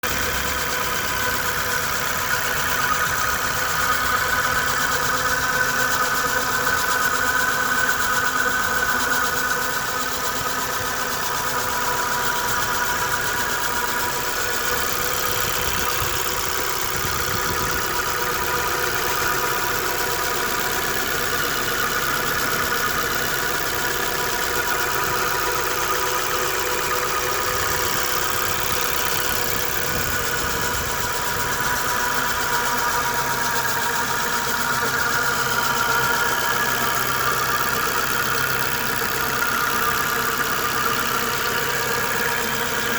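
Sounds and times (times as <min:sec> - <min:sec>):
engine running with whine: 0:00.0 - 0:42.9.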